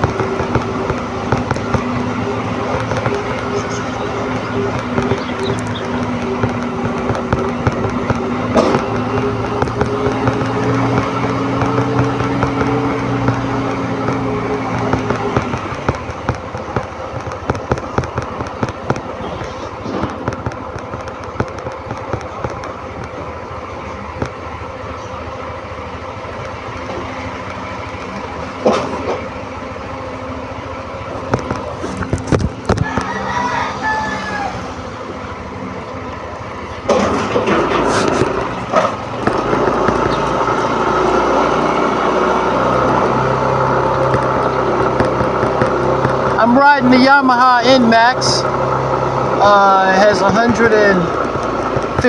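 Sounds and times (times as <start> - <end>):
scooter engine running: 0.0 - 52.0
wind and road noise: 0.0 - 52.0.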